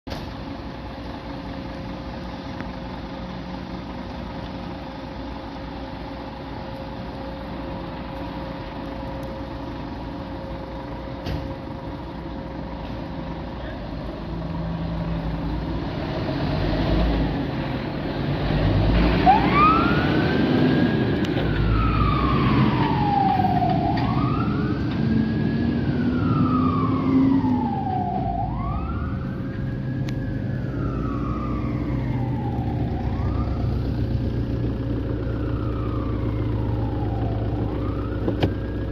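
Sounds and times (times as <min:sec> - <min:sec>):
fire truck diesel engine: 0:00.0 - 0:38.9
fire engine wail siren: 0:00.6 - 0:38.9.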